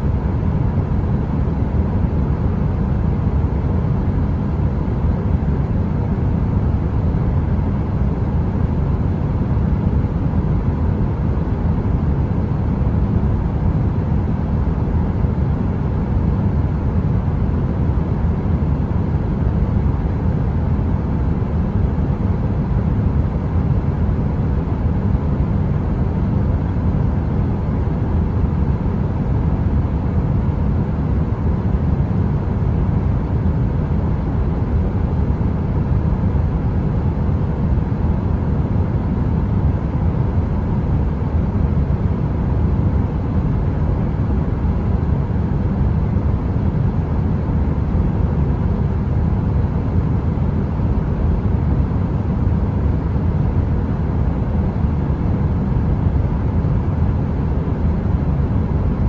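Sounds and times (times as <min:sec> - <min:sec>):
heater running low rumble: 0:00.0 - 0:59.0.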